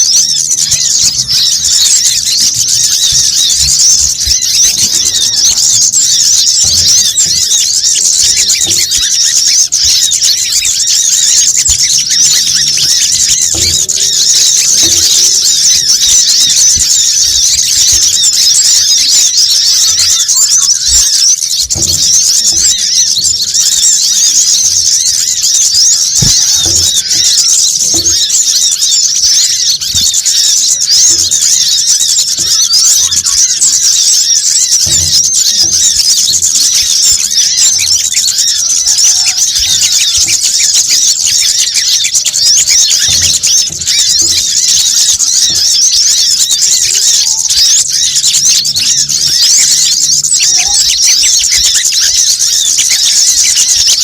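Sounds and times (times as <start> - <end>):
many small birds chirping: 0.0 - 54.0.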